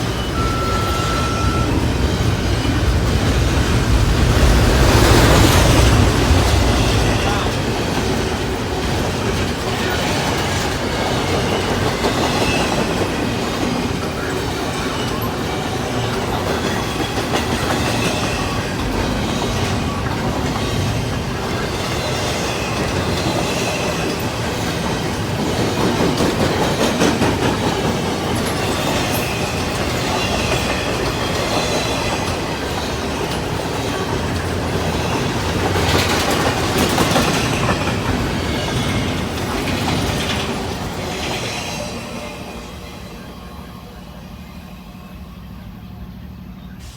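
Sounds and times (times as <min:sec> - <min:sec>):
train wheels squealing: 0:00.0 - 0:03.4, 0:04.4 - 0:46.9
train wheels clicking over rail joints: 0:00.0 - 0:42.9.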